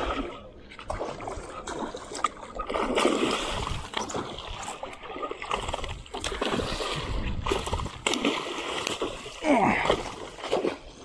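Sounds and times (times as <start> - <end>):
fish splashing in water: 0.0 - 11.0.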